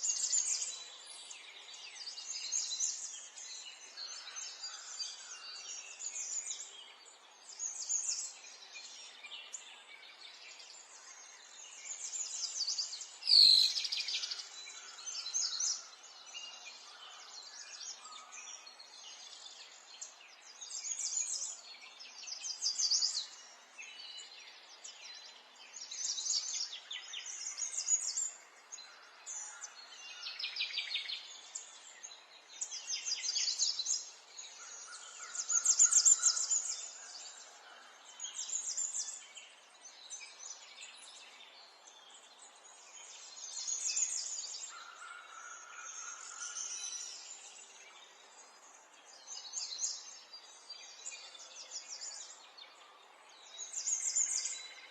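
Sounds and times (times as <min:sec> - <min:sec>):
faint background hiss: 0:00.0 - 0:54.9
songbirds chirping: 0:00.0 - 0:54.9.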